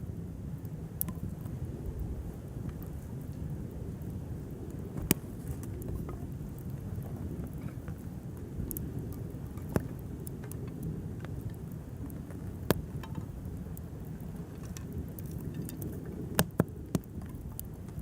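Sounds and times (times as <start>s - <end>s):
campfire rushing: 0.0s - 18.0s
fire crackling pops: 0.0s - 18.0s.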